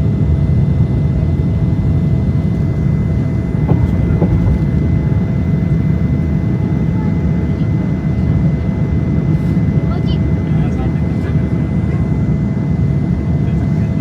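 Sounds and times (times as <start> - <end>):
airplane engines roaring: 0.0 - 14.0
faint engine whine: 0.0 - 14.0.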